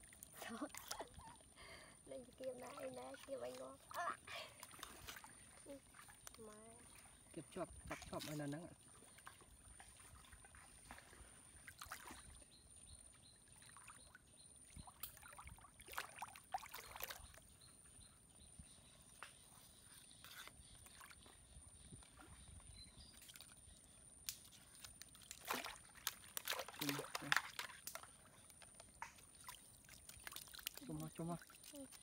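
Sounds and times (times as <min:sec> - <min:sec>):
muddy water splashing: 0:00.0 - 0:12.5, 0:13.4 - 0:17.6, 0:22.0 - 0:32.0.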